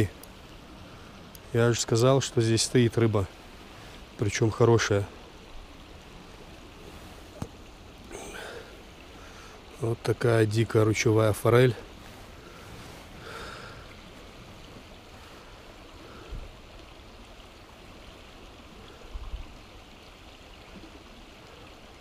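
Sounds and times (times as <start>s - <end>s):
mountain stream flowing: 0.0s - 22.0s.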